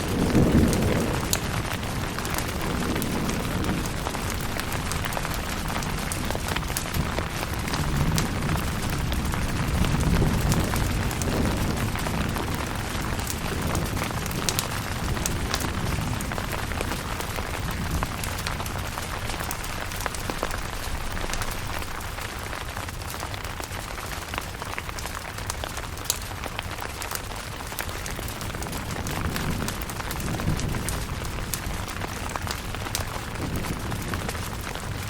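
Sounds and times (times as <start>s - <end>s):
thunder rumble: 0.0s - 24.7s, 27.7s - 35.0s
rain on a tent: 0.0s - 35.0s.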